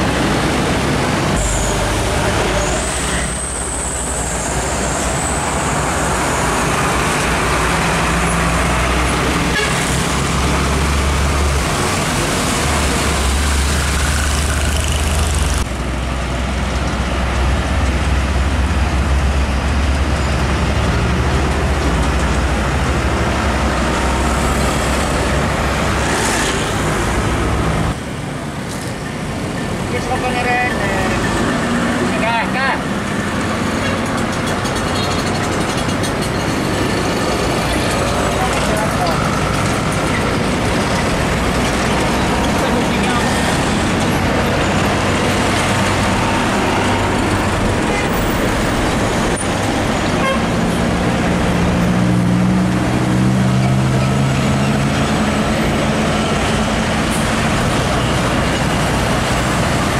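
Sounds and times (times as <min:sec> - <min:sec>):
dense traffic noise: 0:00.0 - 0:59.9
diesel trucks passing: 0:00.0 - 0:59.9.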